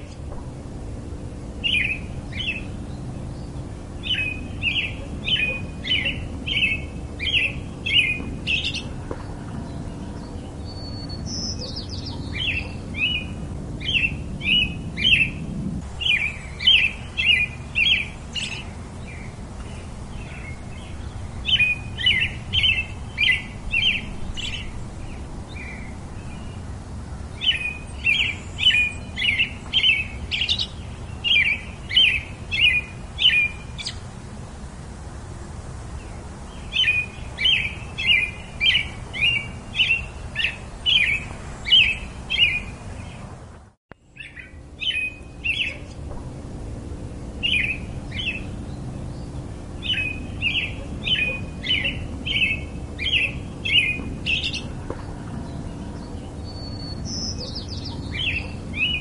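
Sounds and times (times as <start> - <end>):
songbird singing repeated notes: 0.0 - 34.2, 35.9 - 46.4, 47.0 - 59.0.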